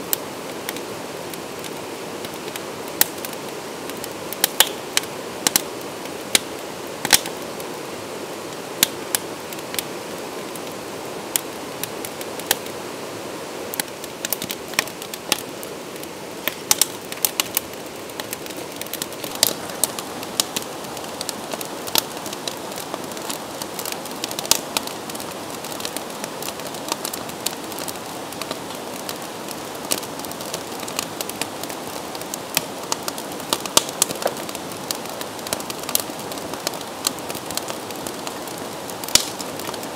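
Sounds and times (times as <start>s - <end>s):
wood fire crackling and popping: 0.0s - 12.8s, 13.6s - 39.9s
stream rushing: 0.0s - 39.9s.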